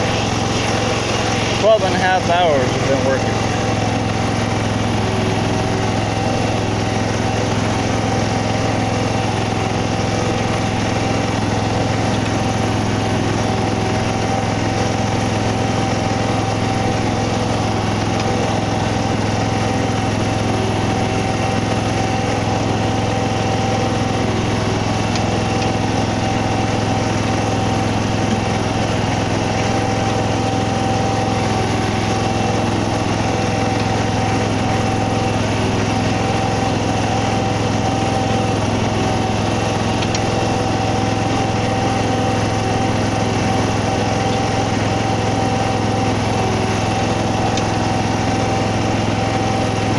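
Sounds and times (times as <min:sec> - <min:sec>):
machine engine running: 0:00.0 - 0:49.9.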